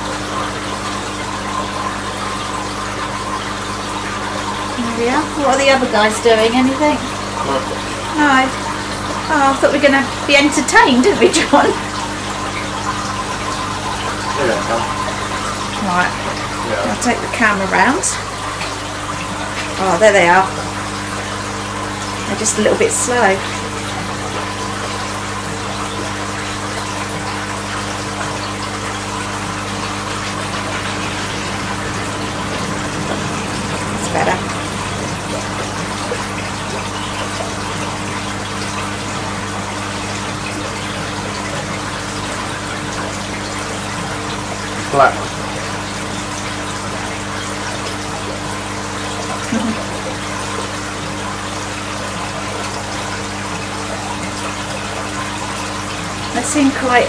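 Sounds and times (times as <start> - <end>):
water pump humming: 0.0 - 57.0
water running into tank: 0.0 - 57.0.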